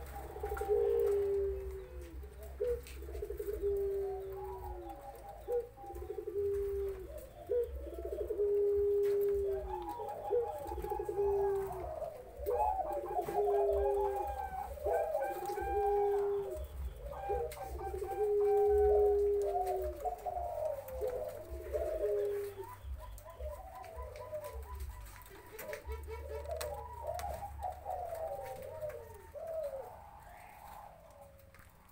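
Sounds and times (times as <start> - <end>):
doves cooing: 0.0 - 31.9.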